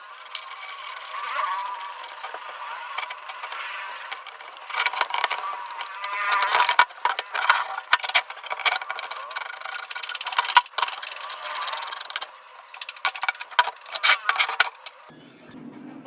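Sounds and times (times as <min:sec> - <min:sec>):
rough scraping: 0:00.0 - 0:15.1
metal tools clinking and rattling: 0:00.2 - 0:15.1.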